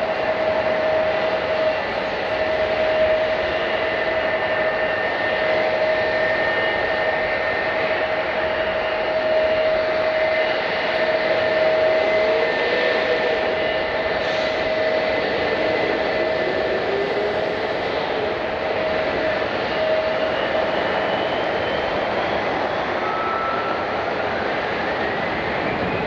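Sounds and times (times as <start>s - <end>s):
airliner engines rushing: 0.0s - 26.0s
high engine whine: 0.0s - 26.0s.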